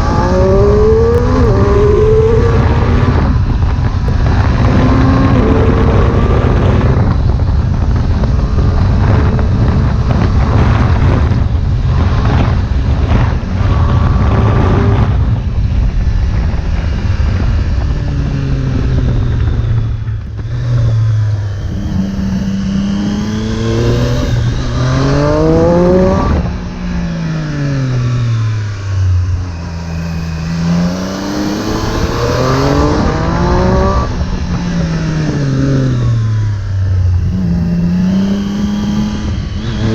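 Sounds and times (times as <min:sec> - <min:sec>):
heavy rushing noise: 0:00.0 - 0:39.9
motorcycle engine revving: 0:00.0 - 0:39.9.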